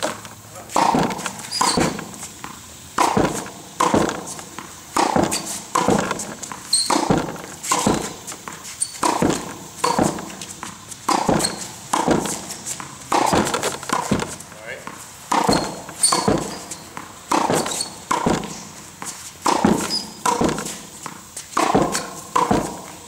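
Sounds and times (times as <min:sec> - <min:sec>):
balls bouncing on concrete: 0:00.0 - 0:23.0
racket hitting tennis balls: 0:00.0 - 0:23.0.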